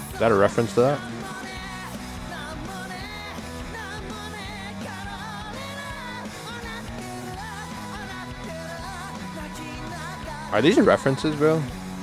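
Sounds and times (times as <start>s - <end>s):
person singing over pop-rock: 0.0s - 12.0s.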